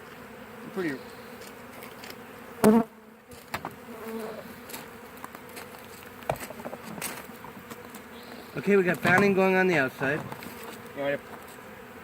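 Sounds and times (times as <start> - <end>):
bee swarm buzzing: 0.0 - 12.0
close bee buzz: 0.0 - 12.0.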